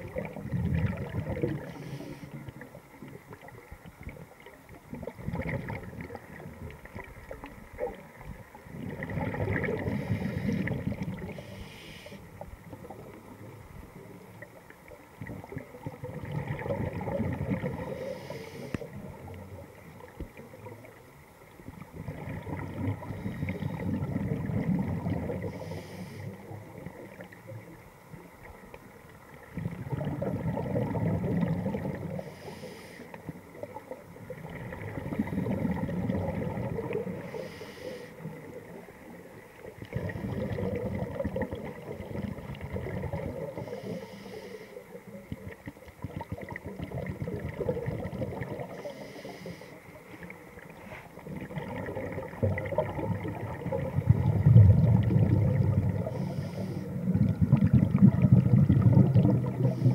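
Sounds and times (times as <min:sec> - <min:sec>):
underwater breathing bubbles: 0:00.0 - 0:21.0, 0:21.6 - 0:28.2, 0:29.4 - 0:59.9.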